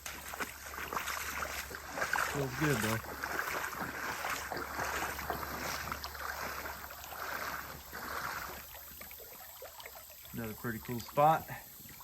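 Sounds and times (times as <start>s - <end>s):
water splashing and sloshing: 0.0s - 12.0s
water trickling: 0.0s - 12.0s.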